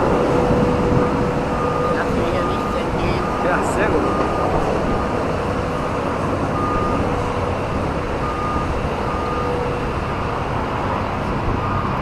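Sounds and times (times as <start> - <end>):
loud outdoor roar: 0.0 - 12.0
reversing alarm beeping: 0.1 - 10.6, 11.5 - 12.0.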